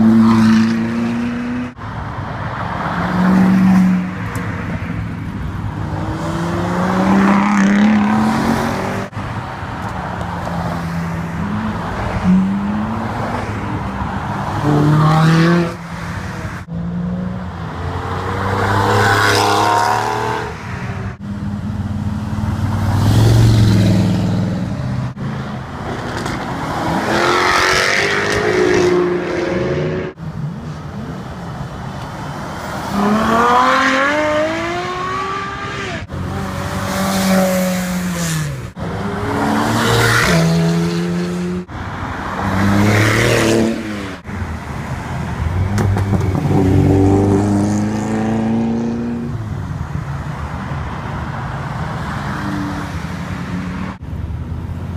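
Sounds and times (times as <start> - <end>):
car engines revving and accelerating: 0.0 - 54.9.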